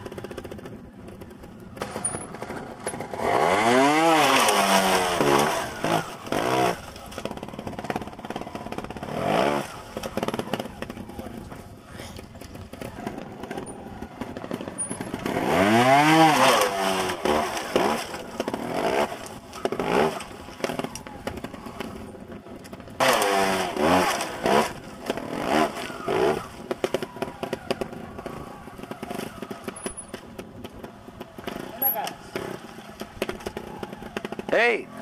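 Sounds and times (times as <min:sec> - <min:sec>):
motorcycle engine idling: 0:00.0 - 0:03.3, 0:05.2 - 0:16.0, 0:17.2 - 0:23.0, 0:24.7 - 0:35.0
motorcycle engine revving: 0:00.0 - 0:35.0.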